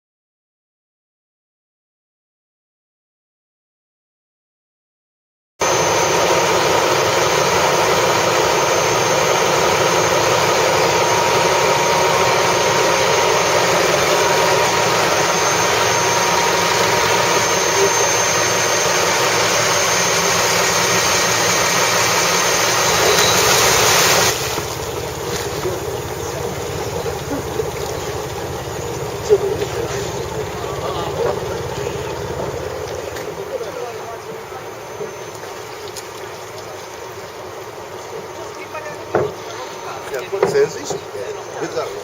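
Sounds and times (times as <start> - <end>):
motor running with whine: 5.6 - 42.0.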